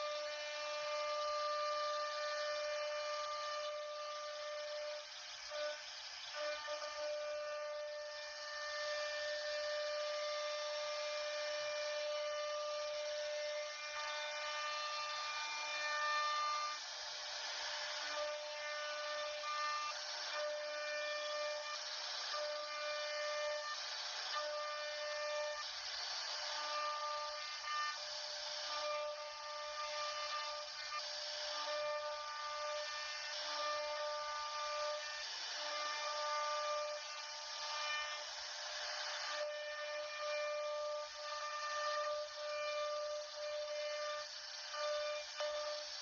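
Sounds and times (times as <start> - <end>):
cnc router whining: 0.0 - 46.0.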